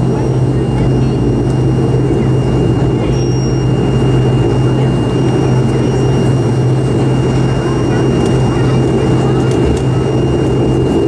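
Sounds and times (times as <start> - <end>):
high-pitched whine: 0.0 - 11.0
propeller engine droning: 0.0 - 11.0.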